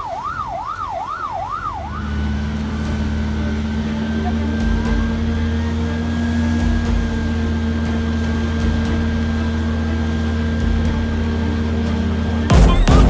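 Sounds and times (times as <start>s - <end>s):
large engine droning: 1.6s - 13.0s.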